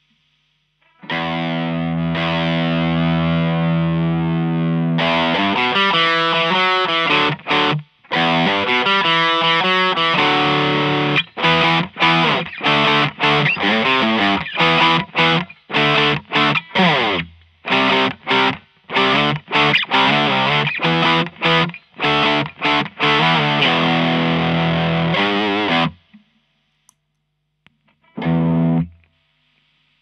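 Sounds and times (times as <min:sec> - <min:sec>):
distorted electric guitar chords: 0:00.8 - 0:26.3, 0:27.9 - 0:30.0.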